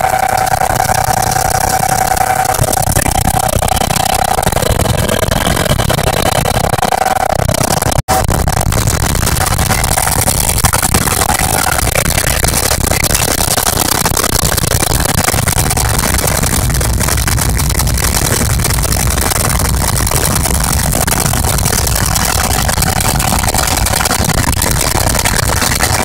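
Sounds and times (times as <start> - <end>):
helicopter engine and rotor din: 0.0 - 26.0
steady whine: 0.0 - 26.0.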